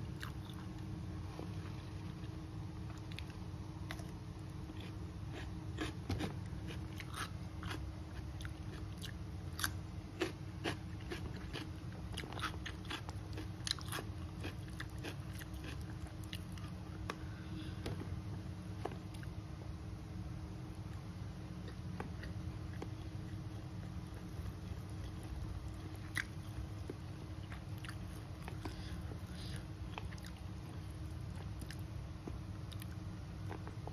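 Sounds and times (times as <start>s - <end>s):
chewing and crunching food: 0.0s - 19.4s, 20.8s - 33.9s
steady low hum: 0.0s - 33.9s.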